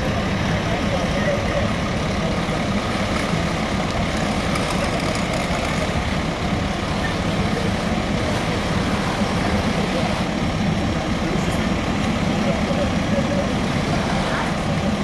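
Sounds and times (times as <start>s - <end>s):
fire engine pump droning: 0.0s - 15.0s.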